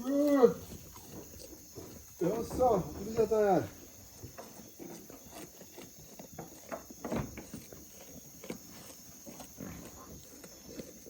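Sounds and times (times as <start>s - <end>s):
goats moving and eating: 0.0s - 11.0s
night insects chirring: 0.0s - 11.0s
shuffling hoof steps: 0.0s - 11.0s.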